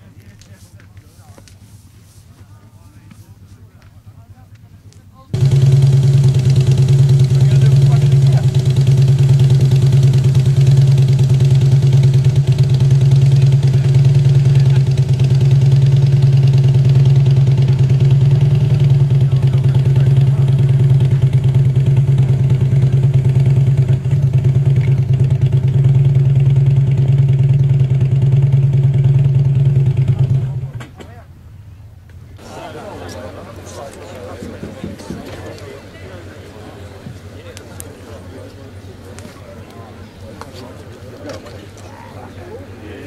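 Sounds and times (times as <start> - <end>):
engine idling: 5.3 - 43.0.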